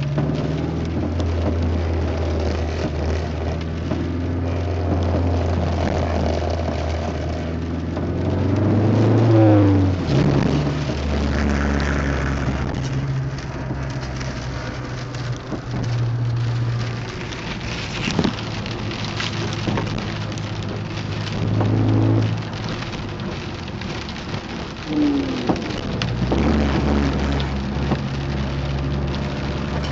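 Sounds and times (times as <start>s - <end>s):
car engine hum: 0.0s - 29.9s
steady rushing noise: 0.0s - 29.9s.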